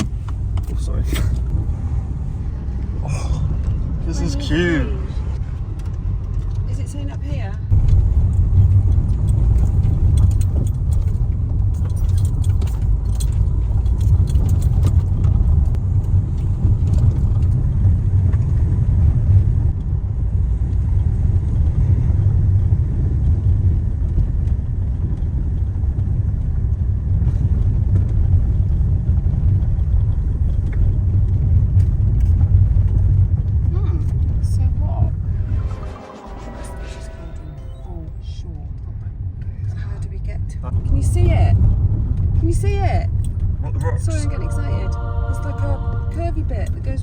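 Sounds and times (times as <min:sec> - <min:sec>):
car engine and tyres rumbling: 0:00.0 - 0:47.0.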